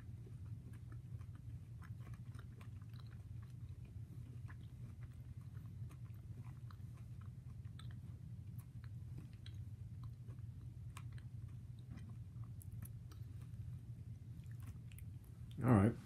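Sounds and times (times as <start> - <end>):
crunchy chewing: 0.0 - 15.7
steady low hum: 0.0 - 16.0.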